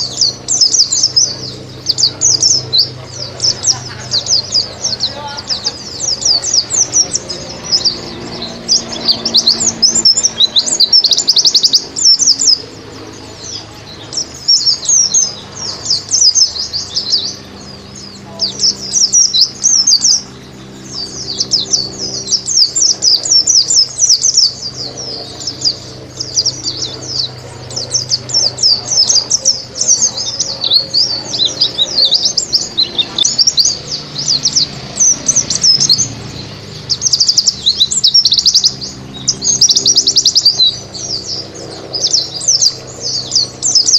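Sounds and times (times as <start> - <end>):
bird twittering song: 0.0 - 43.9.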